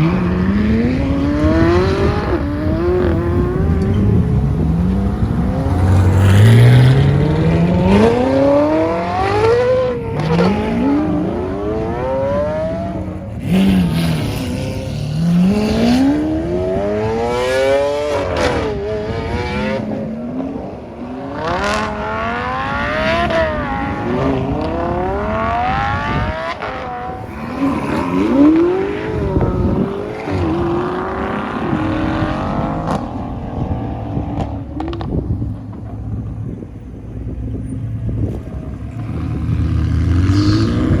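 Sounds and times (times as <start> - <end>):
sports car engines accelerating: 0.0 - 41.0.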